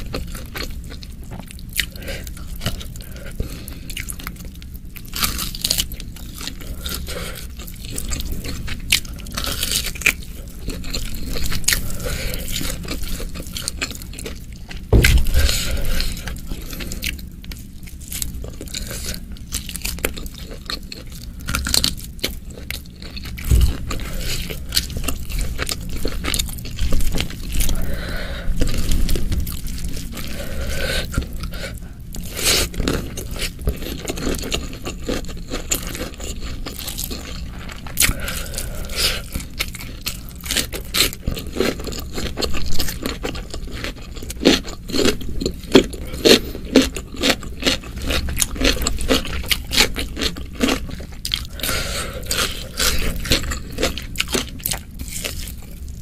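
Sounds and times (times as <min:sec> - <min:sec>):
wet chewing with crunches: 0:00.0 - 0:56.0.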